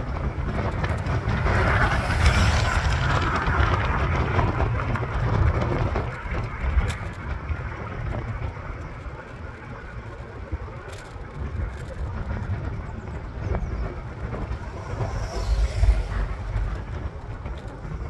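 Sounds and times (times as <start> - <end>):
small tyres rushing on asphalt: 0.0 - 18.0
wind buffeting microphone: 0.0 - 18.0.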